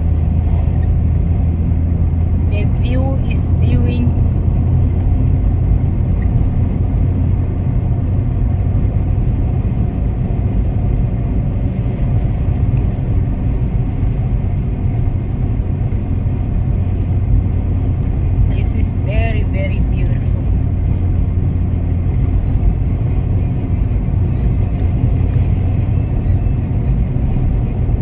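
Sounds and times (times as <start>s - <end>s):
car driving on highway: 0.0s - 28.0s.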